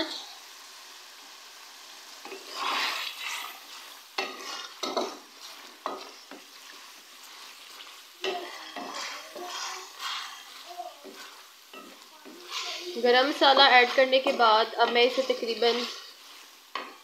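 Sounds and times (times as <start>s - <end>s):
oil sizzling: 0.0s - 17.0s
wooden spatula scraping metal pan: 2.2s - 17.0s.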